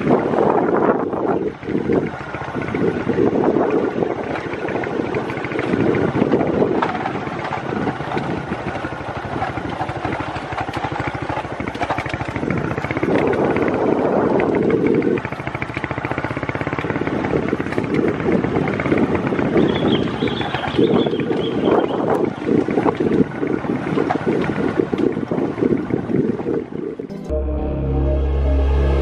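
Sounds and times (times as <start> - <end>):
wind buffeting microphone: 0.0 - 27.1
motorcycle engine running: 0.0 - 29.0.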